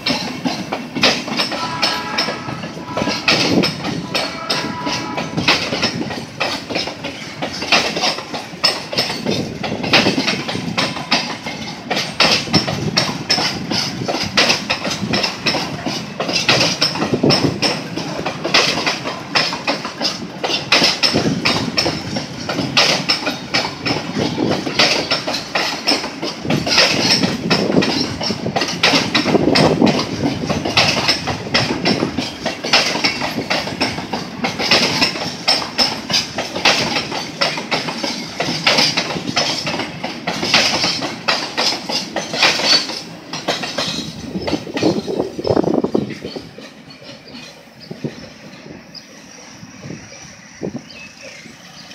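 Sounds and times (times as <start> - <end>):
freight train rolling past: 0.0 - 51.9
wheels clacking over rail joints: 0.0 - 51.9.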